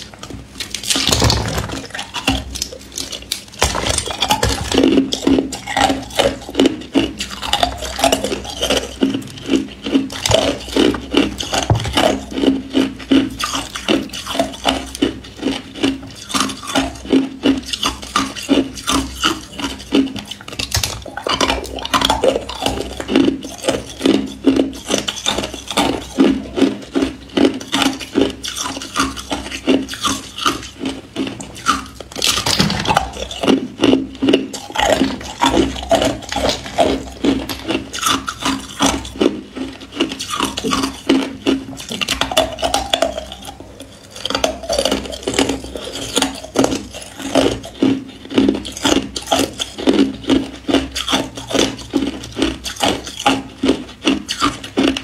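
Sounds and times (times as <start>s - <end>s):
ice crunching being chewed: 0.0s - 55.0s.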